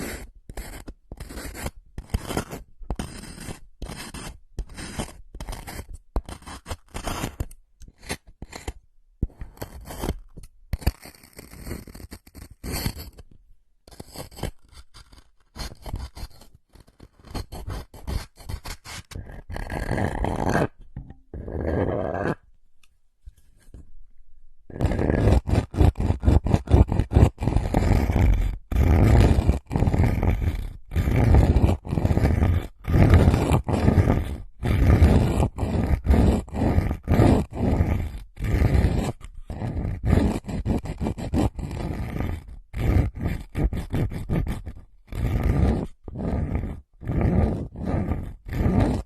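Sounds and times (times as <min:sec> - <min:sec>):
scratching and scraping: 0:00.0 - 0:22.5, 0:23.2 - 0:24.0, 0:24.7 - 0:49.0.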